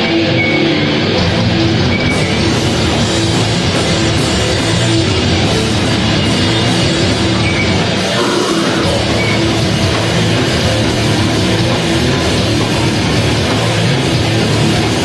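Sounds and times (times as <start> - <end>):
distorted electric guitars: 0.0 - 15.0
drum kit: 0.0 - 15.0.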